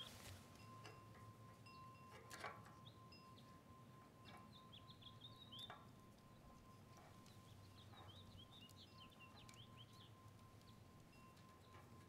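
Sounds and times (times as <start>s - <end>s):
faint steady high tone: 0.0s - 12.0s.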